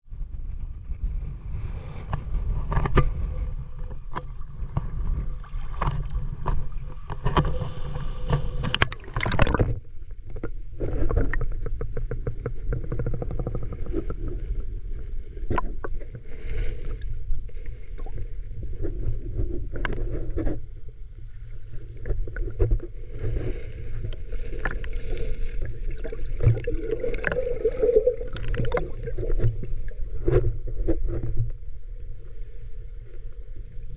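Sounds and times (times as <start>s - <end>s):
underwater water rumble: 0.1s - 33.9s
underwater clicks and crackles: 0.5s - 33.9s.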